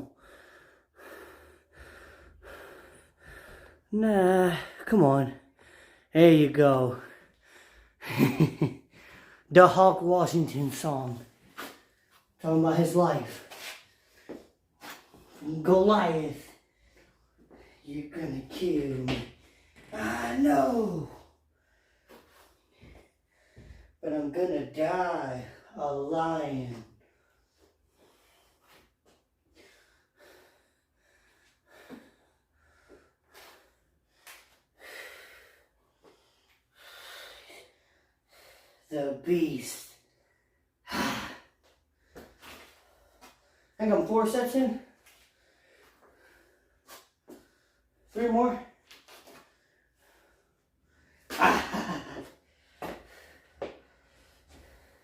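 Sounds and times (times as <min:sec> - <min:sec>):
man breathing heavily: 0:00.0 - 0:06.1, 0:06.9 - 0:09.5, 0:11.0 - 0:24.0, 0:26.9 - 0:38.9, 0:39.8 - 0:43.8, 0:44.6 - 0:48.5, 0:49.2 - 0:51.3, 0:52.0 - 0:55.0.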